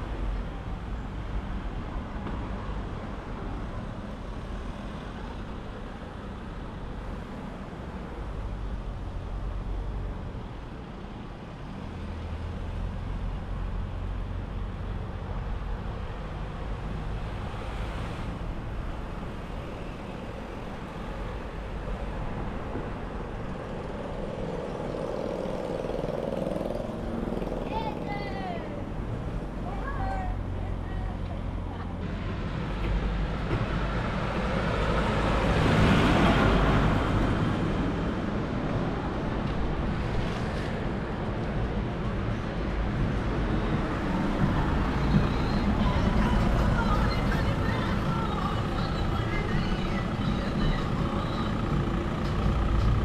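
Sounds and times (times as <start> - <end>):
road traffic rumble: 0.0 - 53.0
vehicles passing: 0.0 - 53.0.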